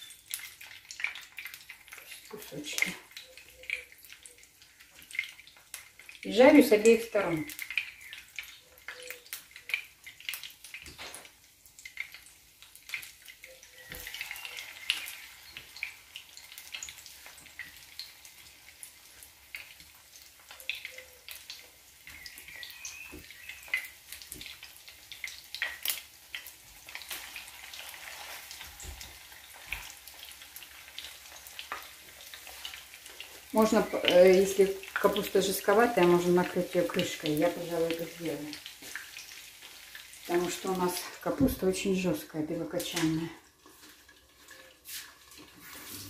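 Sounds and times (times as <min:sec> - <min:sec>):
food frying with popping fat: 0:00.0 - 0:46.0.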